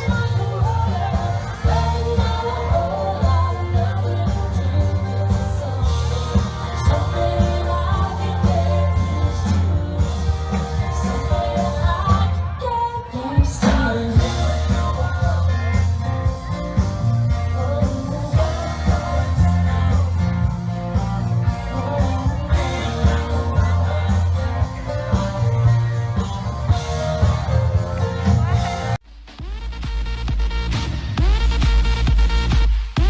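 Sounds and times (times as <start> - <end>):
song with singing and heavy bass: 0.0 - 33.0.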